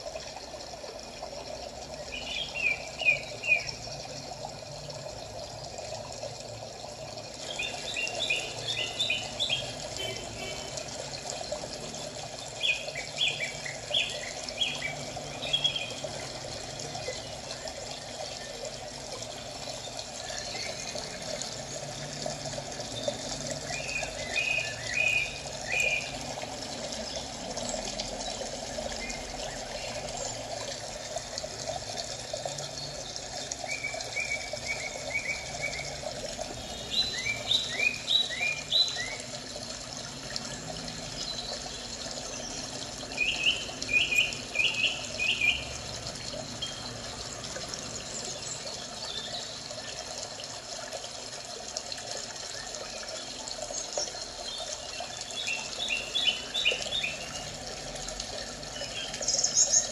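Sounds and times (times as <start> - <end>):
running water: 0.0 - 59.9.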